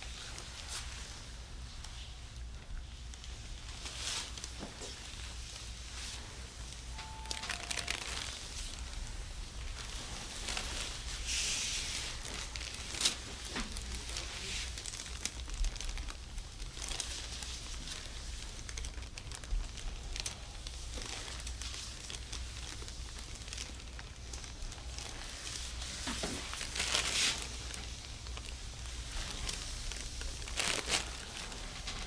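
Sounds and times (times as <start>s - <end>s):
crinkling and rustling: 0.0s - 32.0s.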